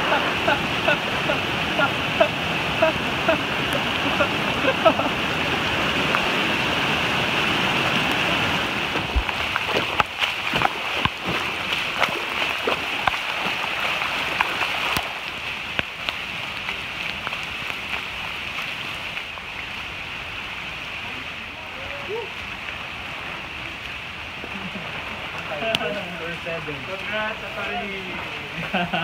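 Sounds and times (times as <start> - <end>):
flooded creek rushing: 0.0 - 29.0
rain falling: 0.0 - 29.0.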